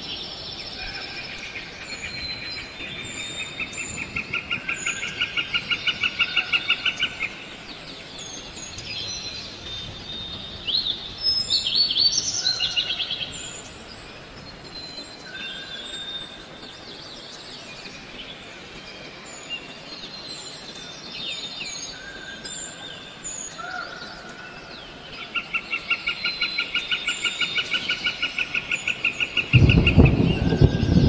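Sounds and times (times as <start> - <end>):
birds chirping and whistling: 0.0 - 31.0.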